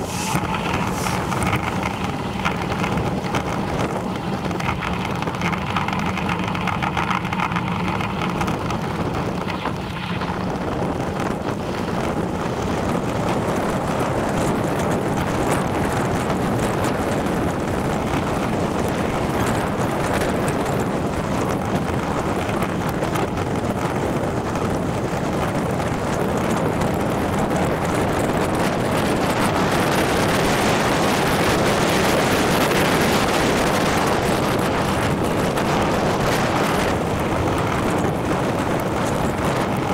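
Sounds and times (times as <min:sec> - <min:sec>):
bicycle tyre road noise: 0:00.0 - 0:39.9
wind rush on microphone: 0:00.0 - 0:39.9.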